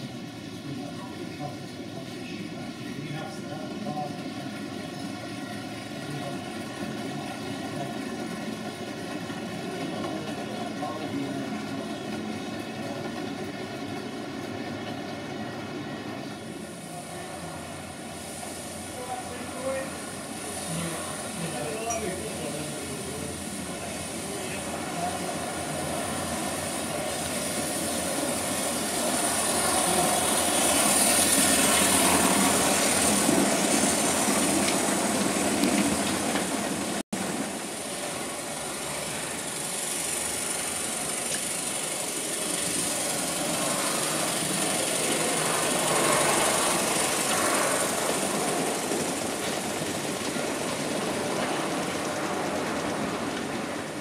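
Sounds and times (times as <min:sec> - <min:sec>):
model trains rumbling: 0:00.0 - 0:54.0.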